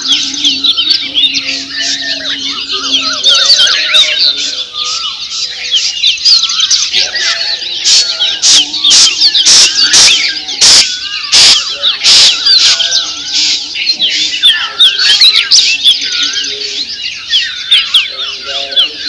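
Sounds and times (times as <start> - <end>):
loud harsh screeching calls: 0.0 - 19.0
songbirds chirping and whistling: 0.0 - 19.0.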